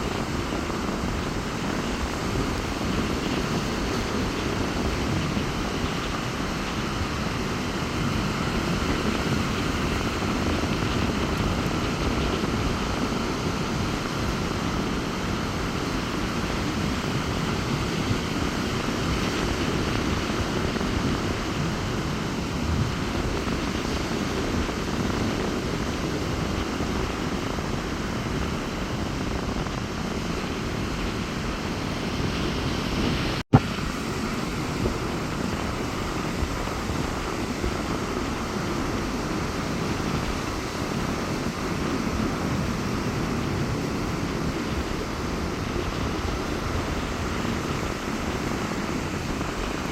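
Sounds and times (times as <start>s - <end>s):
sea surf breaking: 0.0s - 49.9s
wind buffeting microphone: 0.0s - 49.9s.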